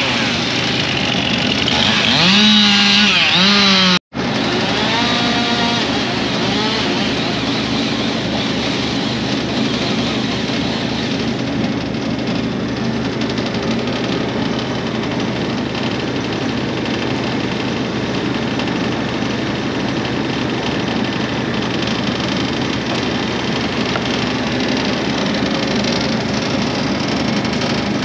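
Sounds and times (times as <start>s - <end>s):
machine engine idling: 0.0s - 28.0s.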